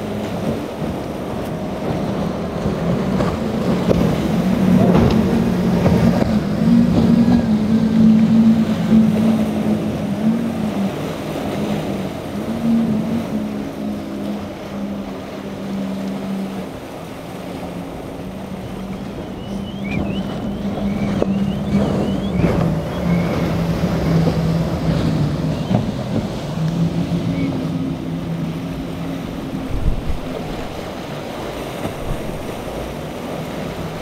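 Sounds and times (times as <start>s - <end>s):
outboard engines droning: 0.0s - 34.0s
rush of spray and surf: 0.0s - 34.0s
wind buffeting microphone: 0.0s - 34.0s.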